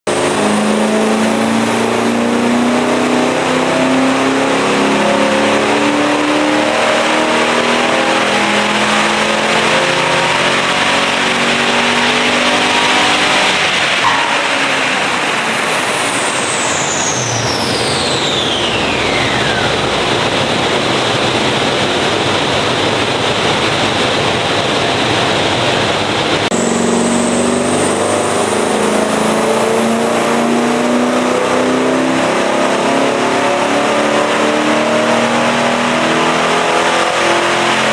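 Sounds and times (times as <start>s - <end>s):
car engine running on dyno: 0.0s - 37.9s
rushing noise with falling whine: 0.1s - 32.3s.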